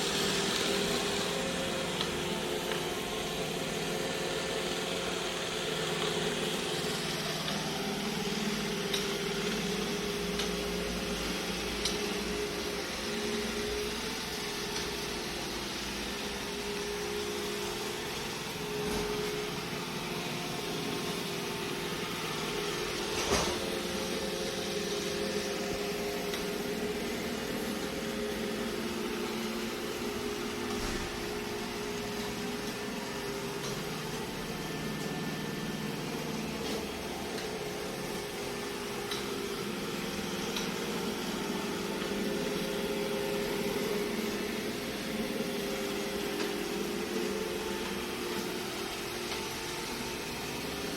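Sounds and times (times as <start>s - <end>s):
robot vacuum motor hum: 0.0s - 50.9s.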